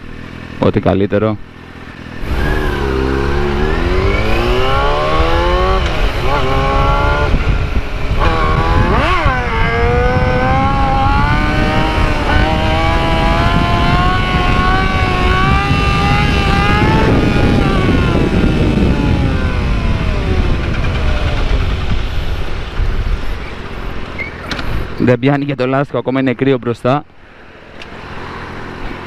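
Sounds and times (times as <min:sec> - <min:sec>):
motorcycle engine accelerating hard: 0:01.4 - 0:24.9.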